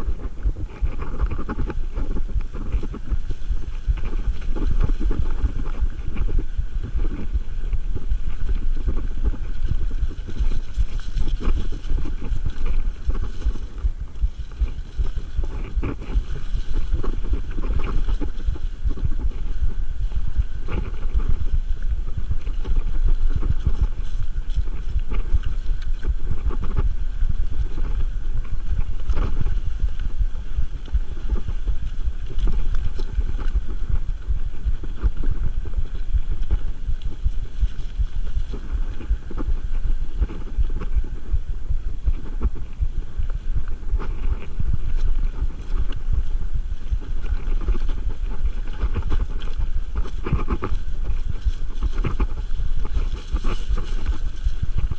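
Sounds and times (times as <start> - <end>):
bike knocking and rattling: 0.0 - 54.9
bike tyres rumbling on stones: 0.0 - 54.9.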